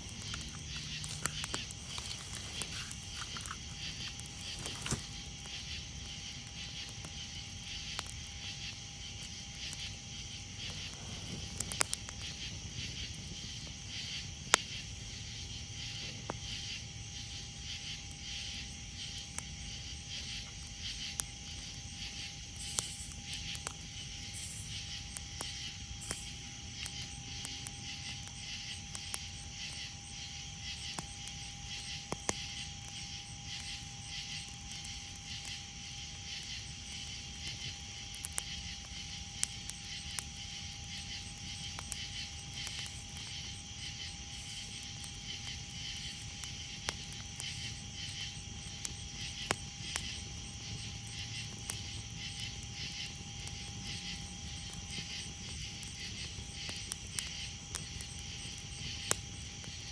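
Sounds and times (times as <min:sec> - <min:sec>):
campfire crackling: 0:00.0 - 0:59.9
night insects trilling: 0:00.0 - 0:59.9.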